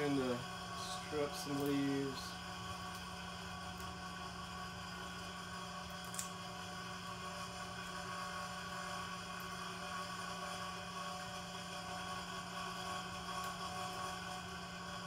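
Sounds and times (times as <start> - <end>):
machine hum with high tones: 0.0 - 15.0.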